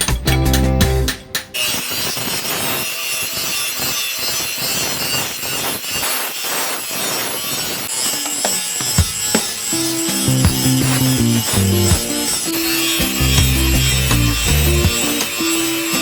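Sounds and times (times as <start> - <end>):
hand tool rasping: 1.6 - 16.0.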